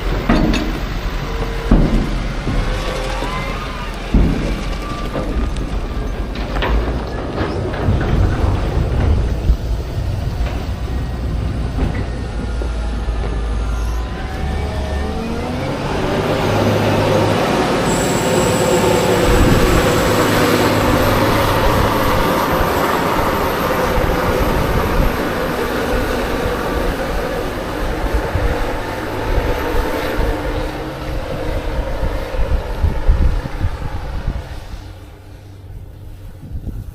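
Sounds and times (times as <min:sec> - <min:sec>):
heavy machinery engine revving: 0:00.0 - 0:36.0.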